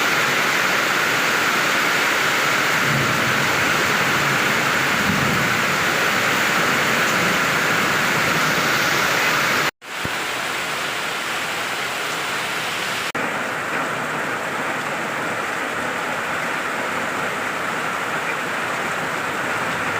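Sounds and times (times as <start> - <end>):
heavy rain: 0.0 - 19.9.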